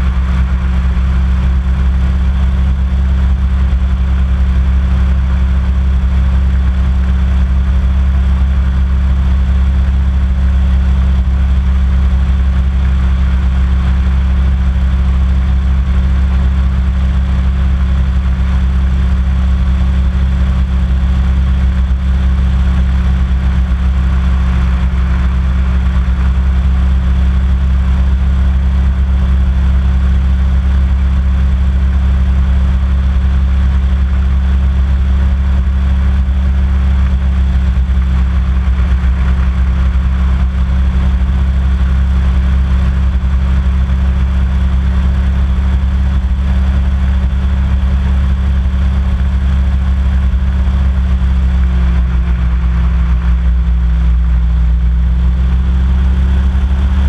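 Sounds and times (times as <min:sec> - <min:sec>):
hovercraft engine and fan drone: 0:00.0 - 0:57.0.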